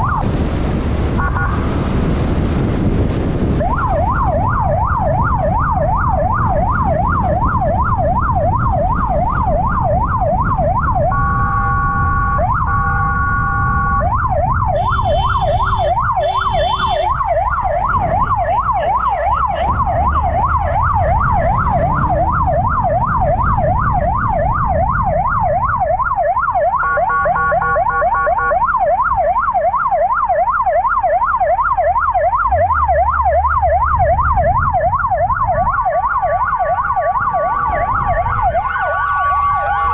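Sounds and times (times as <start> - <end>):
siren yelp: 0.0 - 0.4, 3.3 - 39.9
wind noise: 0.0 - 30.0, 32.4 - 39.9
steady blaring siren tone: 0.0 - 39.9.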